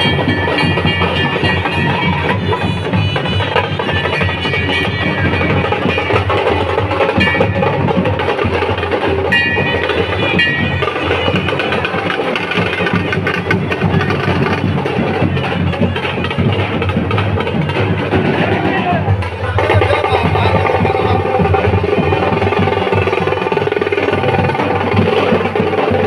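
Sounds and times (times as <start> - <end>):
drums beating: 0.0 - 26.0.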